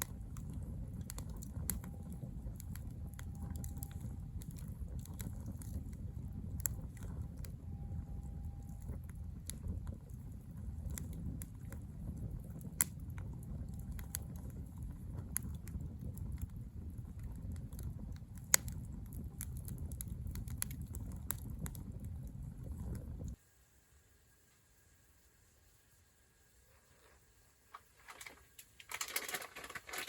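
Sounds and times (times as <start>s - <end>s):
wood popping and crackling: 0.0s - 23.4s, 27.7s - 30.0s
campfire low rumble: 0.0s - 30.0s.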